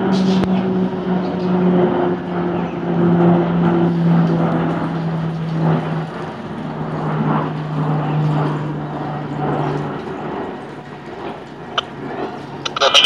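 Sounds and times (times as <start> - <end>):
propeller aircraft droning: 0.0 - 13.0.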